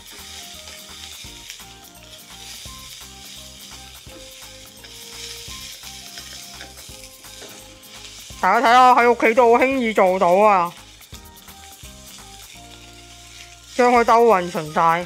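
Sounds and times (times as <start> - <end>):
rice sizzling in a wok: 0.0 - 15.0
wooden spatula stirring: 0.0 - 15.0.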